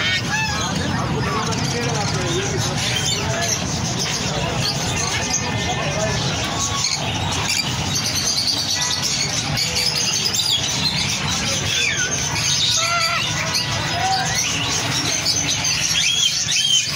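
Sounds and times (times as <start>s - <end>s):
caged birds chirping and calling: 0.0s - 16.9s
steady background din: 0.0s - 16.9s.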